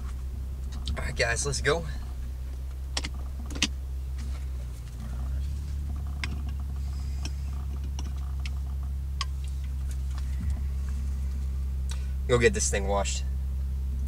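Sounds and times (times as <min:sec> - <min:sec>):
car engine drone inside cabin: 0:00.0 - 0:14.0.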